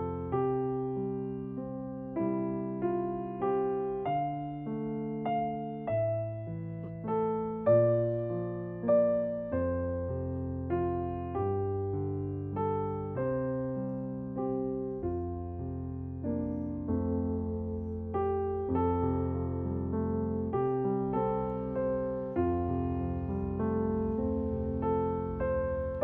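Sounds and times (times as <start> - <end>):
slow piano melody: 0.0 - 26.0.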